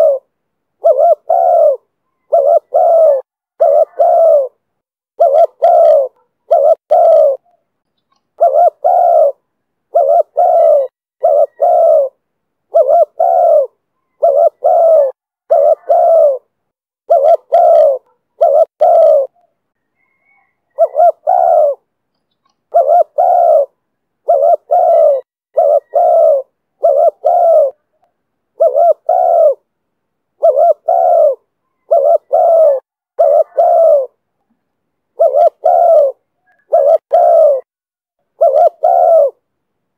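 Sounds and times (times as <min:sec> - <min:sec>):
dove cooing: 0:00.0 - 0:21.9, 0:22.7 - 0:28.0, 0:28.6 - 0:29.7, 0:30.4 - 0:34.2, 0:35.1 - 0:37.7, 0:38.3 - 0:39.4.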